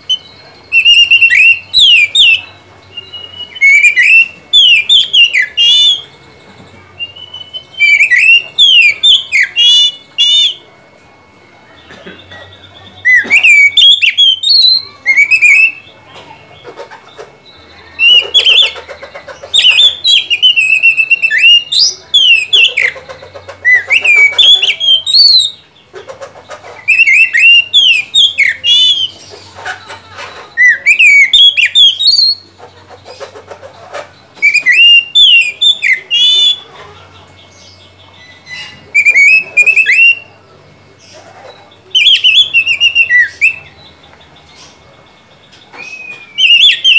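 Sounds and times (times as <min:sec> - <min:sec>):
magpie-robin singing: 0:00.0 - 0:10.8, 0:11.6 - 0:46.9.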